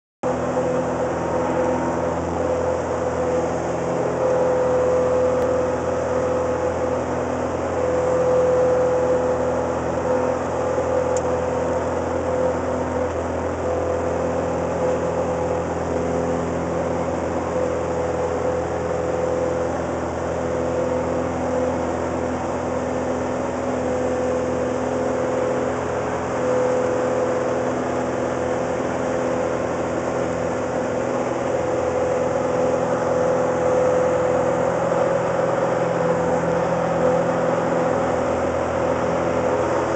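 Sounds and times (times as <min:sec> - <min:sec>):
airplane engine hum in cabin: 0:00.2 - 0:39.9.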